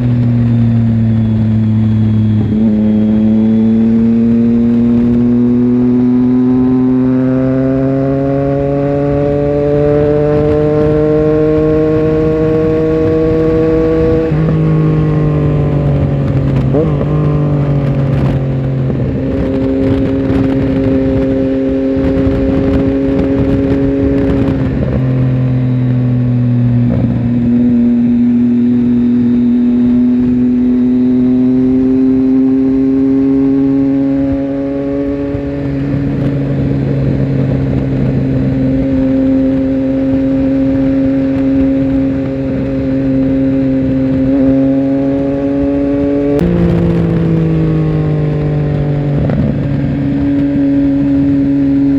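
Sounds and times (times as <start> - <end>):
motorcycle engine cruising: 0.0 - 51.9
wind rush: 0.0 - 51.9.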